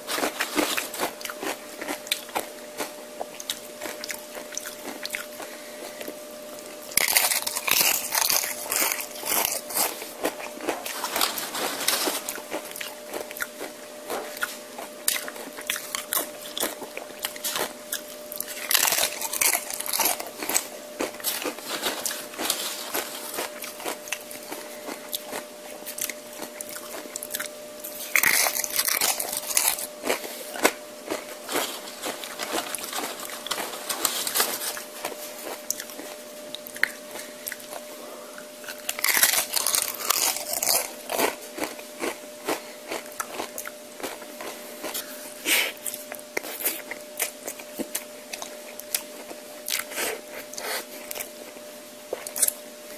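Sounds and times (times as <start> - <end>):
crunchy bites into chips: 0.0 - 50.2
chewing and mouth clicks: 0.2 - 11.0, 12.3 - 33.7, 34.4 - 45.1, 45.8 - 52.6.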